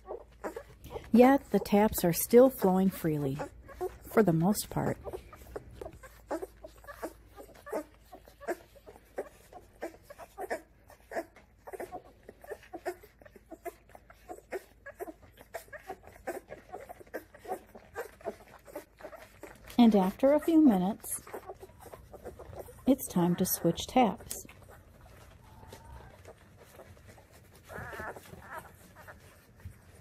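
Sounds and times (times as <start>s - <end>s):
puppies squeaking and suckling: 0.0s - 30.0s.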